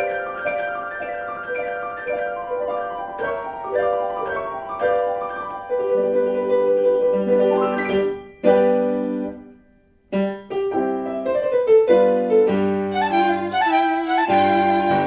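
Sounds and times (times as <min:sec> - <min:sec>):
piano: 0:00.0 - 0:15.0.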